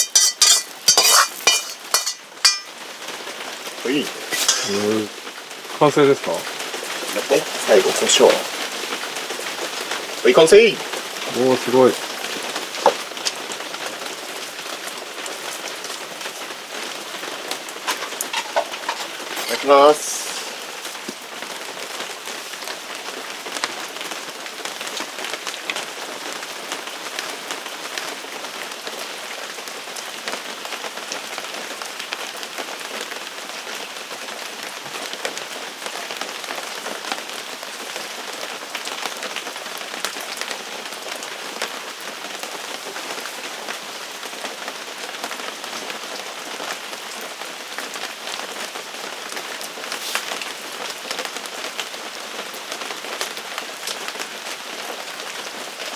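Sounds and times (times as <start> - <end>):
steady rain falling: 0.1 - 55.9.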